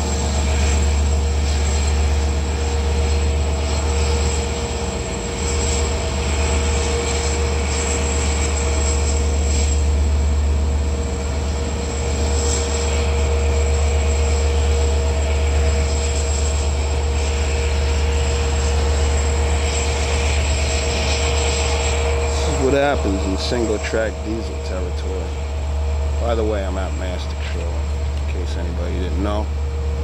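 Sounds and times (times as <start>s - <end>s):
diesel locomotive idling: 0.0s - 30.0s
high whine: 0.0s - 30.0s.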